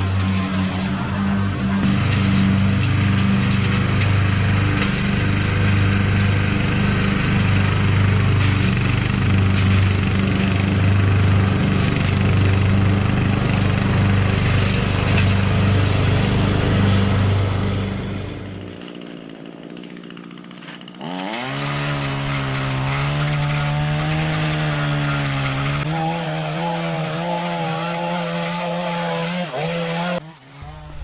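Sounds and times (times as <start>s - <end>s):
lawn mower engine running: 0.0s - 25.9s, 30.6s - 31.0s.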